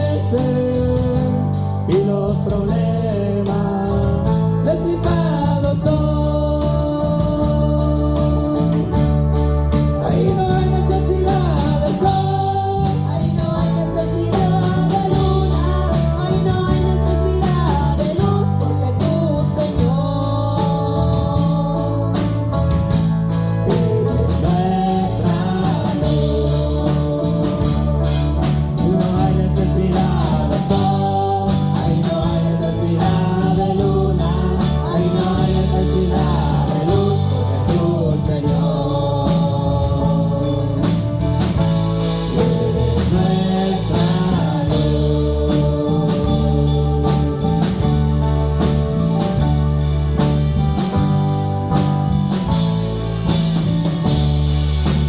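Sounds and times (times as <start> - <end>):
person singing: 0.0 - 49.4
bass line: 0.0 - 55.0
worship band playing: 0.0 - 55.0.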